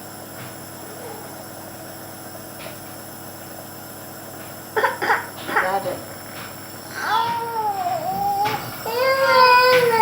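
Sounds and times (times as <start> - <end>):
nebulizer compressor hum: 0.0 - 10.0.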